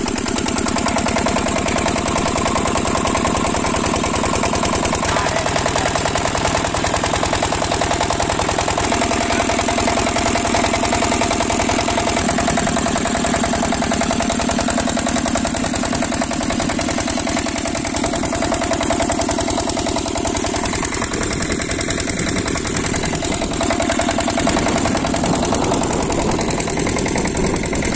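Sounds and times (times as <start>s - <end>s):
diesel engine chugging: 0.0s - 27.9s.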